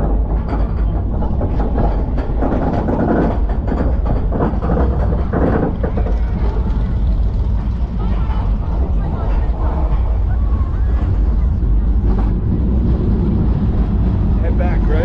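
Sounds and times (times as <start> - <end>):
roller coaster rumbling on track: 0.0 - 15.0
wheels clattering on rails: 0.0 - 15.0.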